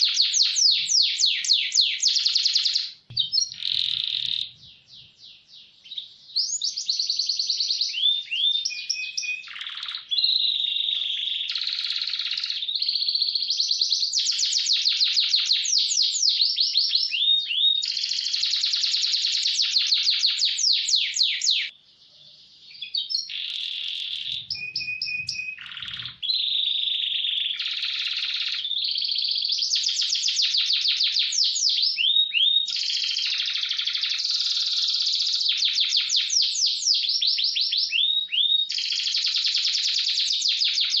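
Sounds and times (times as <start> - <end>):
canary singing trills: 0.0 - 41.0.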